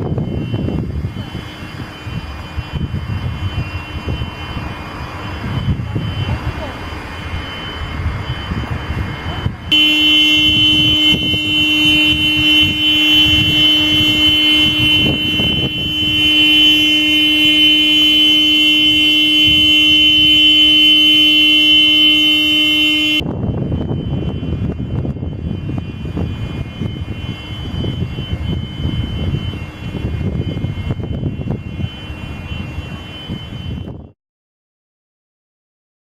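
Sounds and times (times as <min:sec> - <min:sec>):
steady horn-like tone: 0:00.0 - 0:34.1
storm wind: 0:00.0 - 0:34.2.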